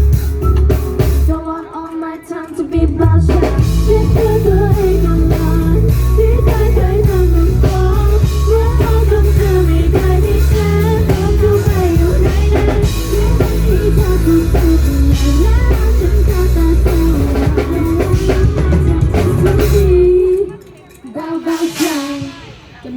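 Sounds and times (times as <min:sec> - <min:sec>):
heavy bass line: 0:00.0 - 0:01.4, 0:03.0 - 0:20.2
drums: 0:00.0 - 0:22.9
guitar: 0:00.0 - 0:22.9
woman singing: 0:01.2 - 0:22.9.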